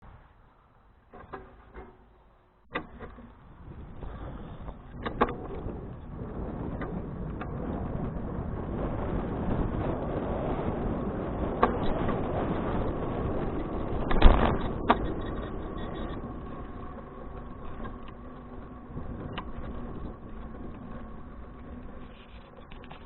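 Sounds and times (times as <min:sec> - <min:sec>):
wind and tyre noise: 0:00.0 - 0:23.0.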